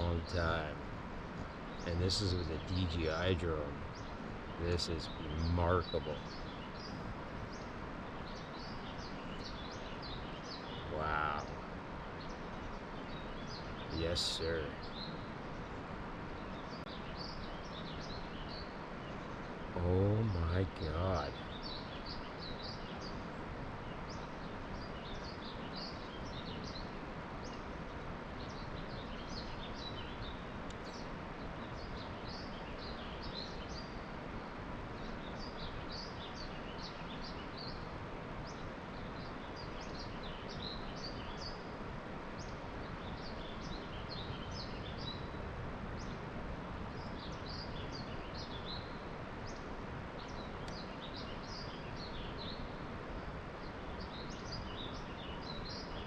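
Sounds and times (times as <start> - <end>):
small birds chirping: 0.0 - 56.0
steady outdoor hiss: 0.0 - 56.0.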